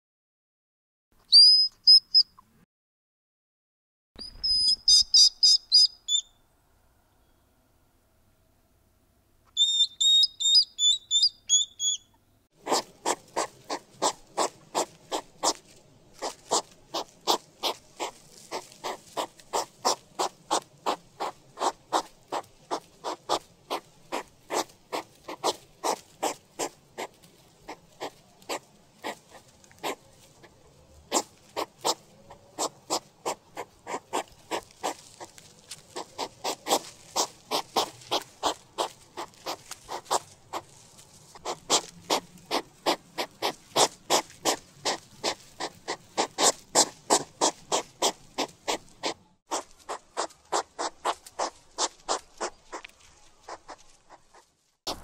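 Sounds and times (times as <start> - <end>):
hedgehog squeaking: 1.3 - 2.4, 4.2 - 6.4, 9.5 - 55.0.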